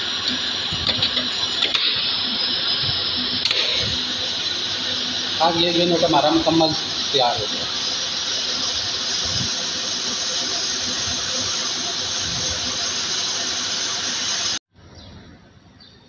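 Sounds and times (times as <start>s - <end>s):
loud hiss: 0.0s - 14.6s.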